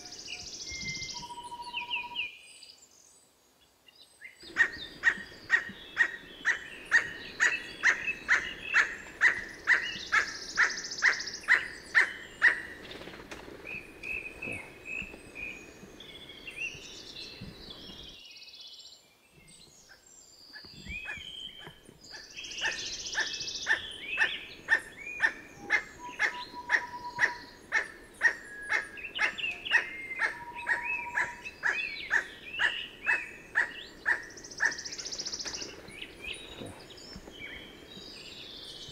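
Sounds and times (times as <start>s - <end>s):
bird chirps: 0.0s - 2.8s, 3.9s - 38.9s.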